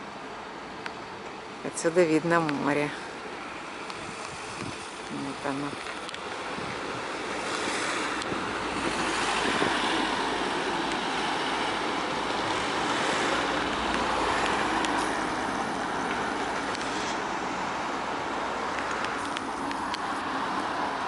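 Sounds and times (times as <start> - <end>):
car driving on road: 0.0 - 21.0.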